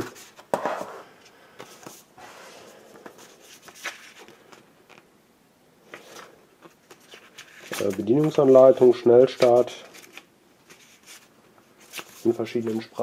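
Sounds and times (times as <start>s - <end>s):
paper and cardboard rustling: 1.6s - 5.0s, 5.9s - 13.0s.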